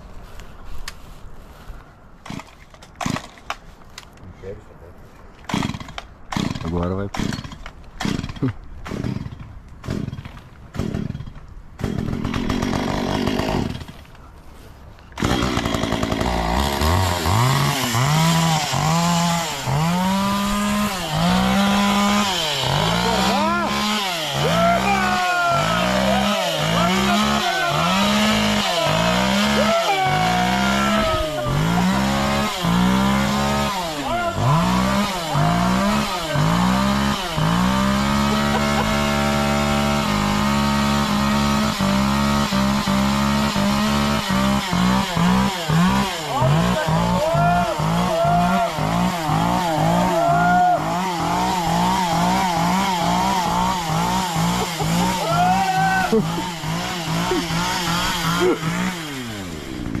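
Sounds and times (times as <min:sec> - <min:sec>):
chainsaw engine revving: 0:02.3 - 0:03.4, 0:05.5 - 0:14.0, 0:15.2 - 1:00.0.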